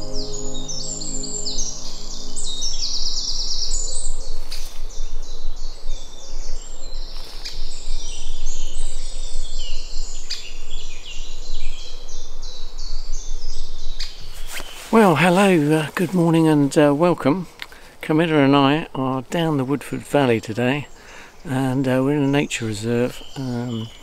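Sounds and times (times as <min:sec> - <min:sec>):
songbirds chirping and whistling: 0:00.0 - 0:17.4, 0:20.2 - 0:24.0.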